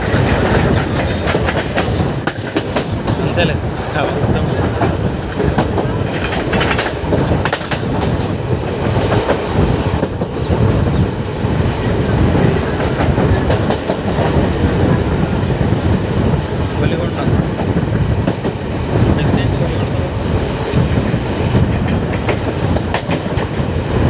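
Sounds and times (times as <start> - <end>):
train wheels clattering over rails: 0.0 - 24.0.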